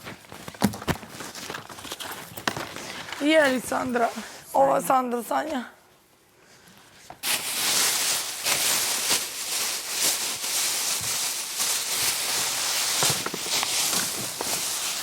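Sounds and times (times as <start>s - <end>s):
rustling with crackles: 0.0s - 4.4s, 7.0s - 15.0s.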